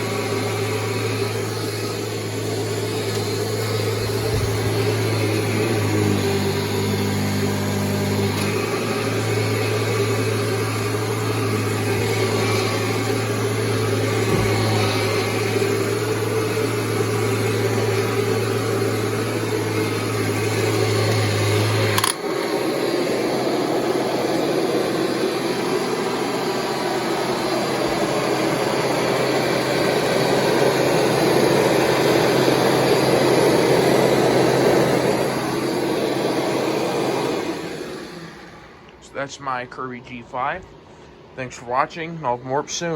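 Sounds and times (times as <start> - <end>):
vacuum cleaner running: 0.0 - 42.9
vacuum cleaner click: 0.1 - 39.0.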